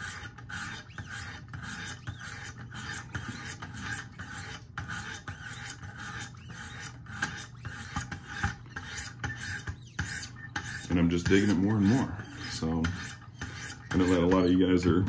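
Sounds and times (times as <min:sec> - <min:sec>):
stone rasping on knife edge: 0:00.0 - 0:14.6.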